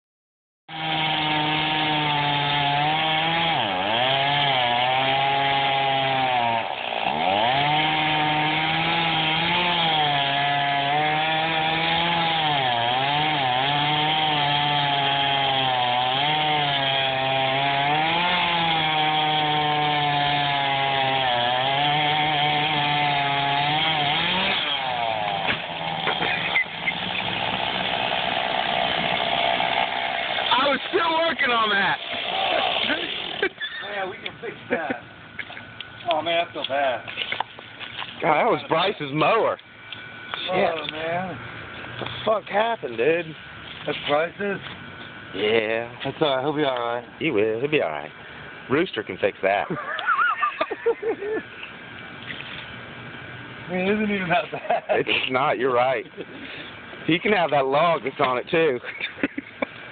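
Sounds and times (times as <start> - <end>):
chainsaw cutting and bogging: 0.7 - 34.3, 35.8 - 47.0, 47.7 - 59.9.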